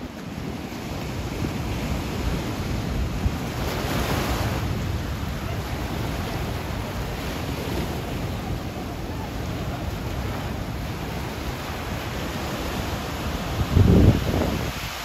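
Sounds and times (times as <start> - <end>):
wind buffeting microphone: 0.4 - 15.0.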